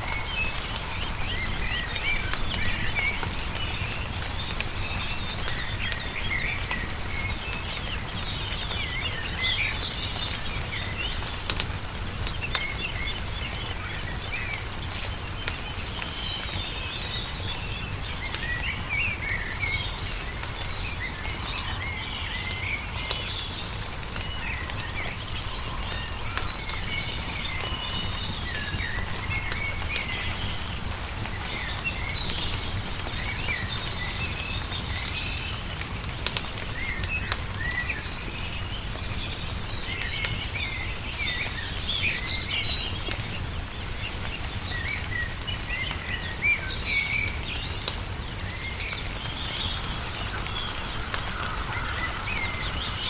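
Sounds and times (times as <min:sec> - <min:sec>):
songbirds chirping: 0:00.0 - 0:53.0
wood fire crackling and popping: 0:00.0 - 0:53.0.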